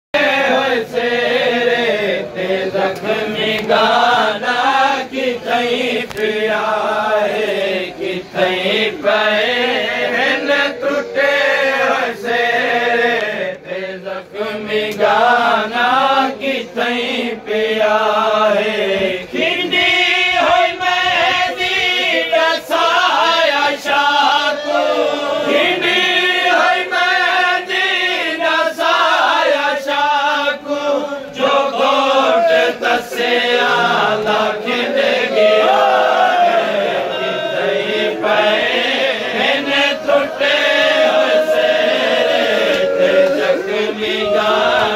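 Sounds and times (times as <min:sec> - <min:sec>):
men chanting together: 0:00.2 - 0:44.9.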